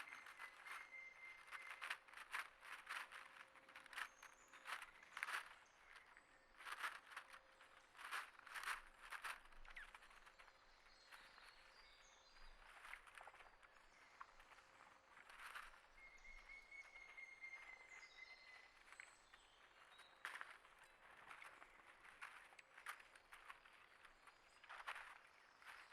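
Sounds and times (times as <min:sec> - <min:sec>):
faint high bird chirps: 0:00.0 - 0:25.9
scratchy rustles: 0:00.0 - 0:25.9.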